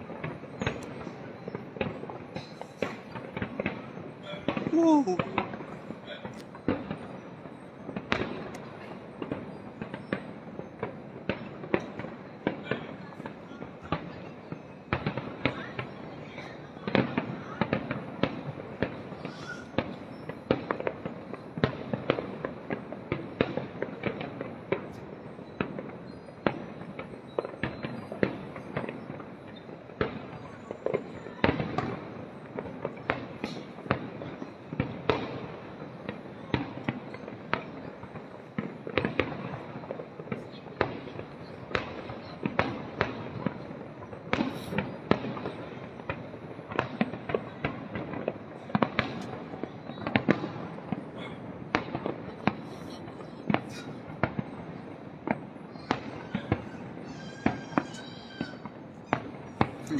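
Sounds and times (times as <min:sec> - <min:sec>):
continuous noisy background: 0:00.0 - 0:59.9
fireworks bursting: 0:00.0 - 0:59.9.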